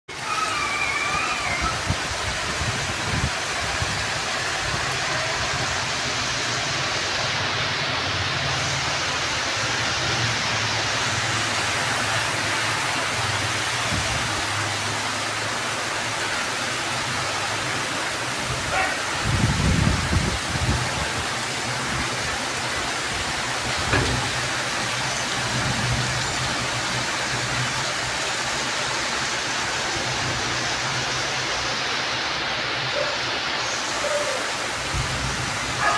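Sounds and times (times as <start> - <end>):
torrential rain pouring: 0.1 - 35.9.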